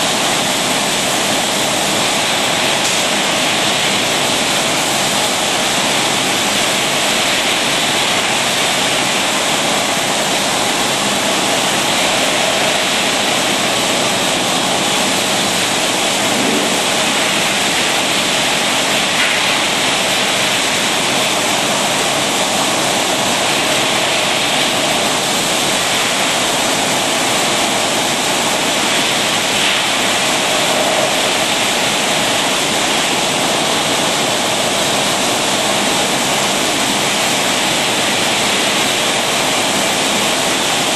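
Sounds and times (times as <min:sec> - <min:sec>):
bottle-filling machine running: 0:00.0 - 0:40.9.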